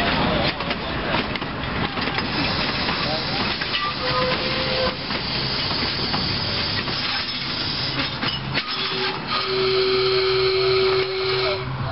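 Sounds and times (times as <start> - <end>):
train wheels rumbling on rail: 0.0 - 11.9.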